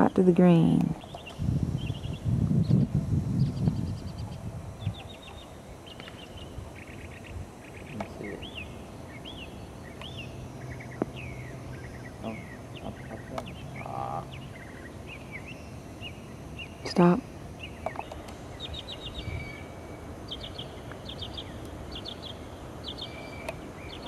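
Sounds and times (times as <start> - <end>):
low steady hum: 0.0 - 24.0
songbirds chirping and trilling: 0.0 - 24.0.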